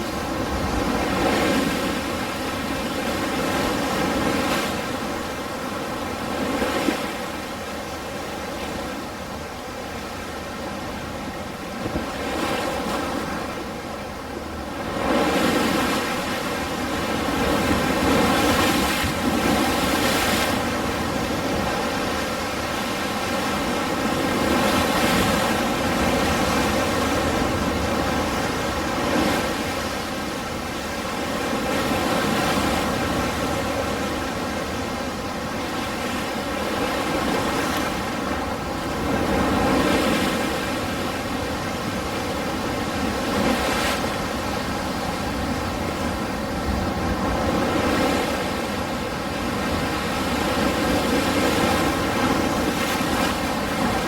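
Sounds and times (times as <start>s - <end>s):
ocean surf washing in: 0.0s - 54.0s.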